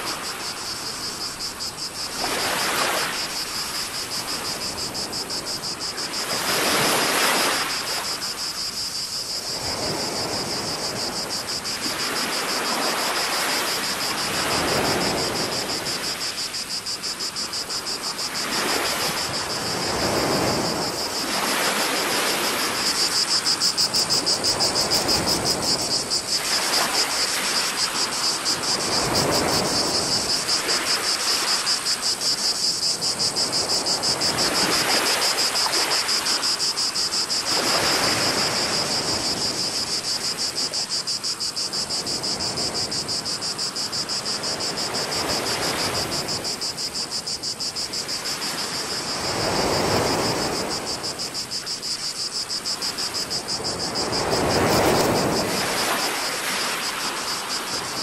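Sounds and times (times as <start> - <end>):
cicadas singing: 0.0 - 58.0.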